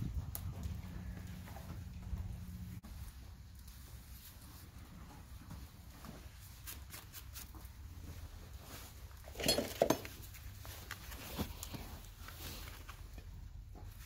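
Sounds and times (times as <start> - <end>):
hoof rasp clicks and scuffs: 0.0 - 14.0.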